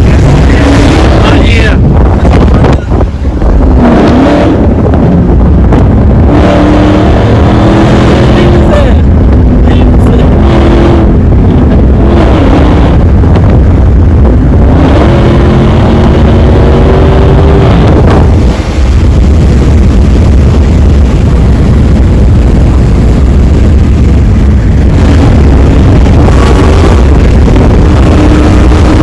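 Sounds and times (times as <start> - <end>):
car engine rumbling while driving: 0.0 - 29.0
wind noise: 0.0 - 29.0.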